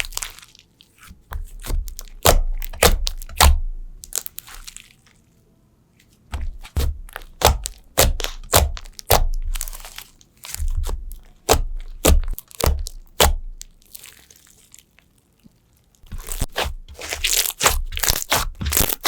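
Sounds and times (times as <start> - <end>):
slime crackling and popping: 0.0 - 5.1, 6.3 - 15.3, 16.0 - 19.0.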